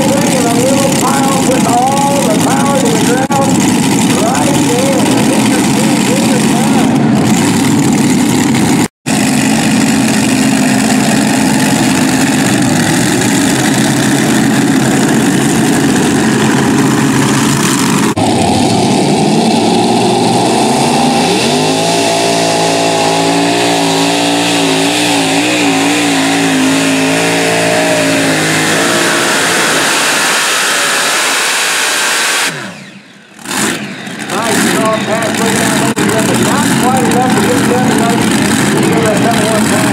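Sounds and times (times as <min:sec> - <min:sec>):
multi-engine tractor revving: 0:00.0 - 0:39.9
supercharged tractor engines running: 0:00.0 - 0:39.9.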